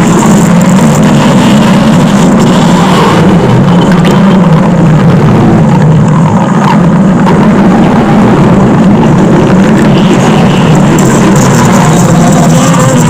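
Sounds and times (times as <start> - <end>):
stomach growling rumble: 0.0 - 13.0.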